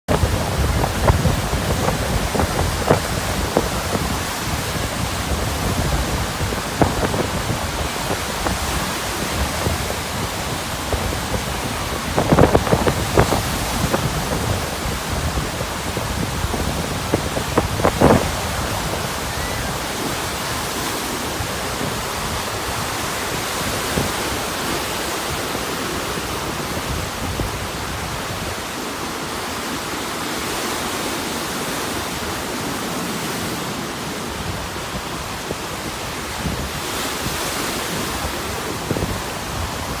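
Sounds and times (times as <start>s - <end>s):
lake waves breaking on shore: 0.1s - 40.0s
strong wind buffeting microphone: 0.1s - 40.0s.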